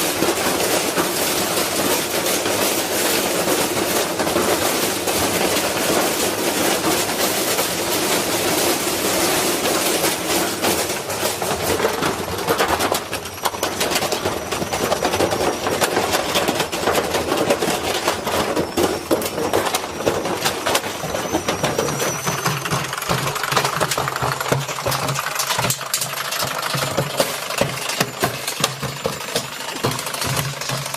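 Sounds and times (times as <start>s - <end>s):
washing machine rattling and knocking: 0.0s - 30.9s.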